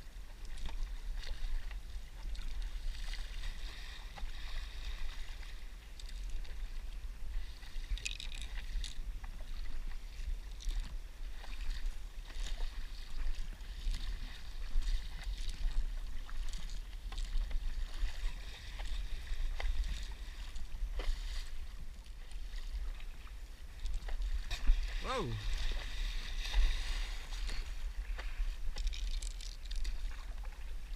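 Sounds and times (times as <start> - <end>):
paddle splashing in water: 0.0 - 30.9.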